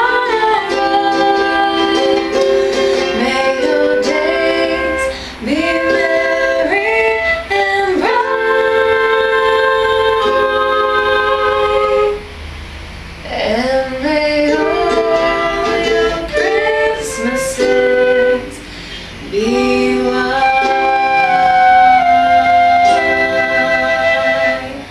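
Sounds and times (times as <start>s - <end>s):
woman singing: 0.0s - 12.2s, 13.3s - 24.9s
flute holding notes: 0.0s - 12.4s, 14.5s - 24.9s
ukulele: 0.0s - 12.5s, 13.4s - 24.9s.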